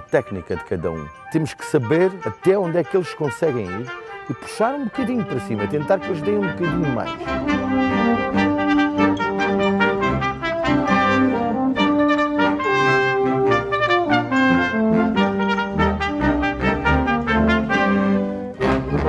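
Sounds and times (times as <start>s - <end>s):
brass chords: 0.0s - 19.0s.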